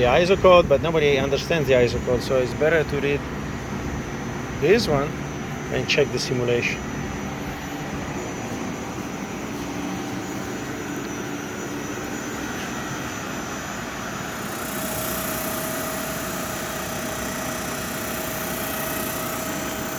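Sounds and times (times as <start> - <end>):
high hiss: 0.0 - 19.9
saw mechanical hum: 0.0 - 19.9
steady whine: 0.0 - 19.9.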